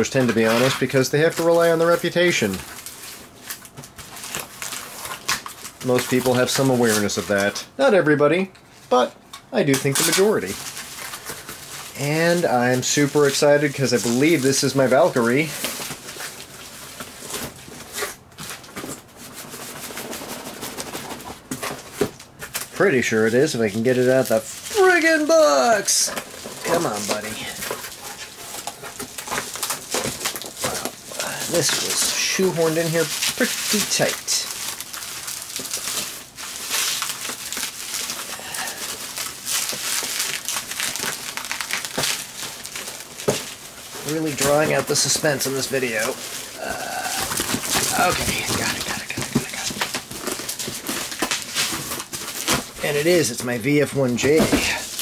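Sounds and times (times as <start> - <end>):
bubble wrap crackles: 0.0 - 7.7, 8.7 - 55.0.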